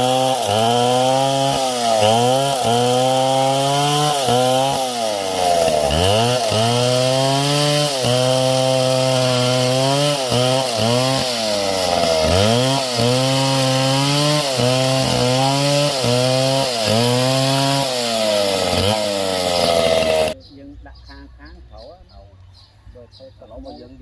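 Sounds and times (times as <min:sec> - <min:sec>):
chainsaw cutting wood: 0:00.0 - 0:20.4.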